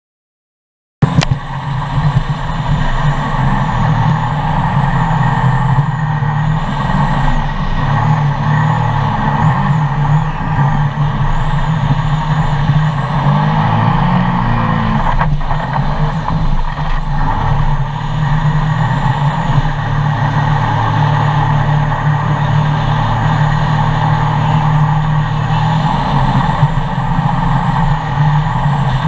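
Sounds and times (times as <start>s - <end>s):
boat engine running hard: 1.0s - 29.0s
thin high whine: 1.0s - 29.0s.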